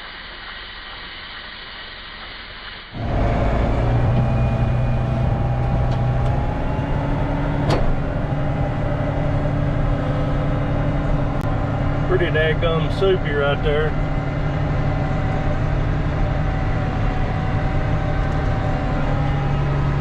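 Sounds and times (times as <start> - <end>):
diesel farm machine engine running: 3.0 - 20.0.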